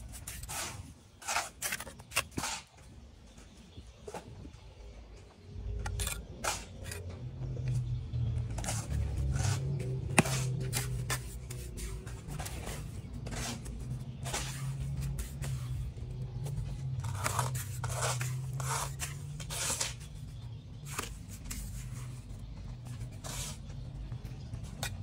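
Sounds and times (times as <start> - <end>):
trowel scraping mortar: 0.0 - 2.8, 5.8 - 23.9.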